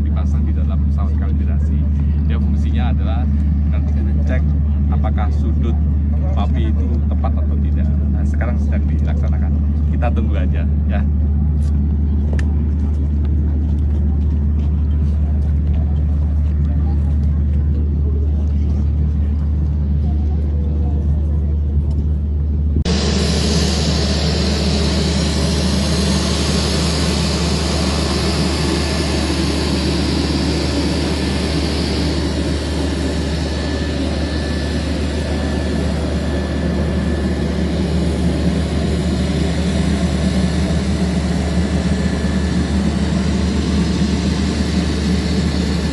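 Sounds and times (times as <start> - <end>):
turboprop engines droning: 0.0 - 45.9.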